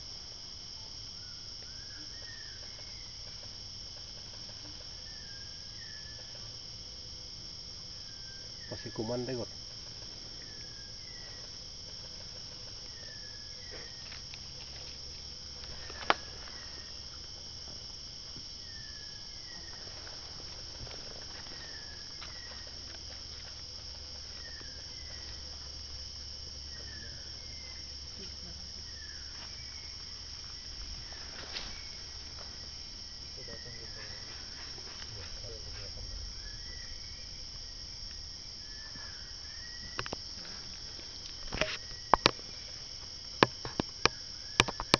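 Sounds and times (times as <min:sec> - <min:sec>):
insect chorus drone: 0:00.0 - 0:44.9.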